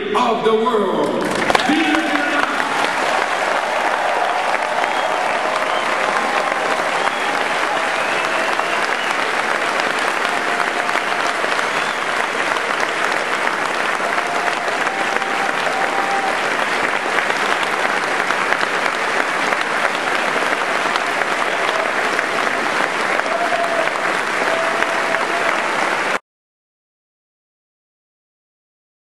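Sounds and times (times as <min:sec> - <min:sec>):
large crowd applauding: 0:01.1 - 0:26.2.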